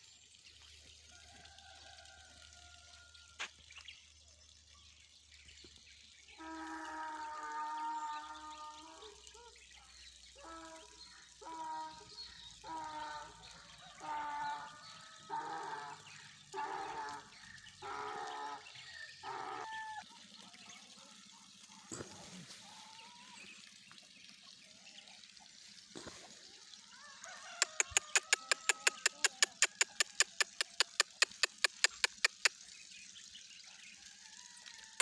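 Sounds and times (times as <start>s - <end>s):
faint trickling water: 0.0s - 35.0s.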